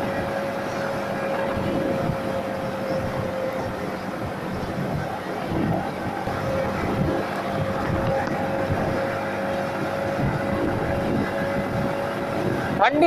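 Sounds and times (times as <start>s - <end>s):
motorcycle engine cruising: 0.0s - 13.0s
road noise: 0.0s - 13.0s
wind noise: 0.0s - 13.0s.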